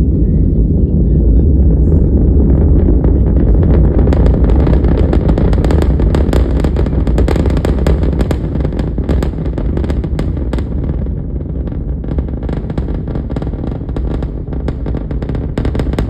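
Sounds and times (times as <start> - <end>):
harsh rocket crackling: 0.0 - 16.0
rocket engine rumble: 0.0 - 16.0.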